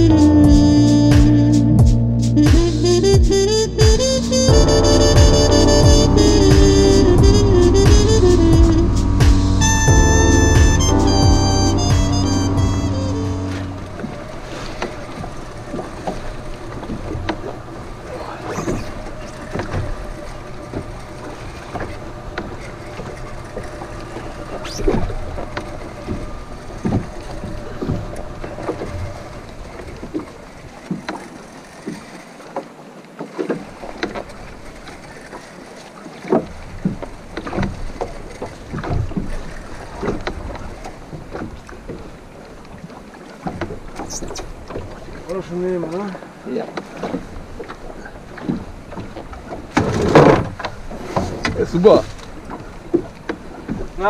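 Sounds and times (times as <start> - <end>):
waves lapping against boat hull: 0.0 - 54.0.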